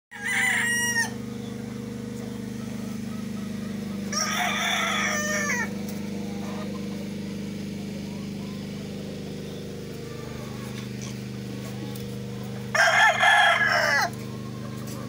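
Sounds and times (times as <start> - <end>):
roosters crowing: 0.1 - 15.0
steady low hum: 0.1 - 15.0.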